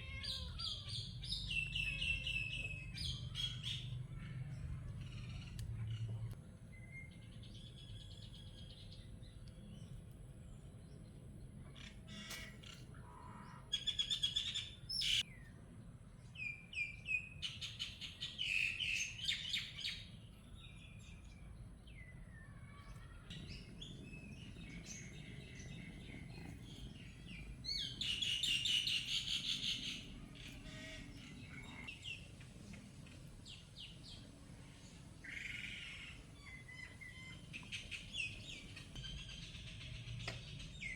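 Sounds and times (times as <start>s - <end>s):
wild birds chirping: 0.0s - 40.9s.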